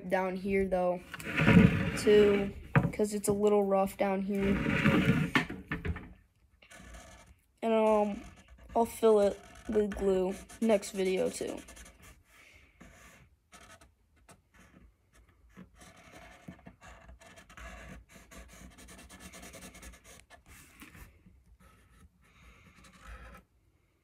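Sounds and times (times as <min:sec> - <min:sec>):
marker scratching on stick: 0:00.2 - 0:02.6, 0:03.5 - 0:05.4, 0:06.6 - 0:23.4.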